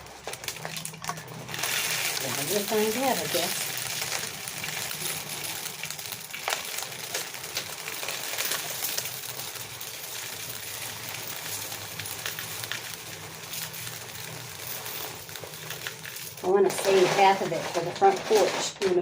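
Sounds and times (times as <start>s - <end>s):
birdseed clicking and rattling: 0.0s - 18.9s.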